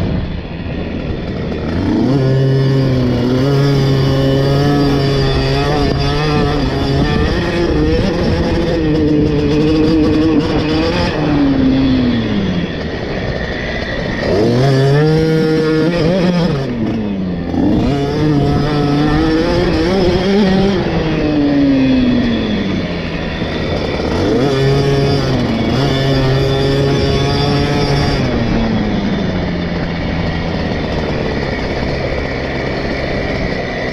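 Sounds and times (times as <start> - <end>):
two-stroke motorbike engine revving: 0.0 - 33.9.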